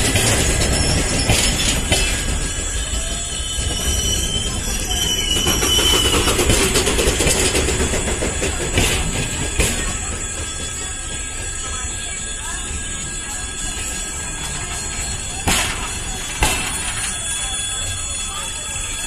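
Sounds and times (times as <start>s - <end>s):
train wheels rumbling on rail: 0.0s - 19.0s
thin high squeal: 0.7s - 19.0s.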